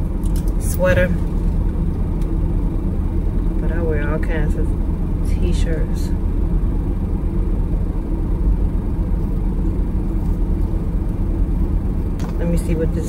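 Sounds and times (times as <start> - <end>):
air conditioning blowing: 0.0 - 13.0
car engine idling: 0.0 - 13.0.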